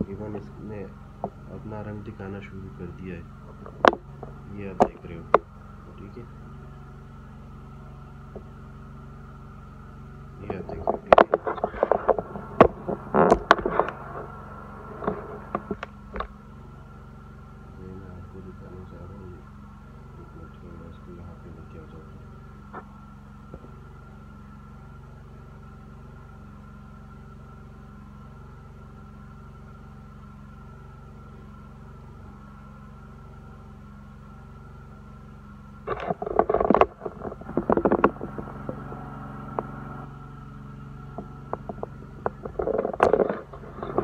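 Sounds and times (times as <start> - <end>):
mechanical hum with held tones: 0.0 - 44.0.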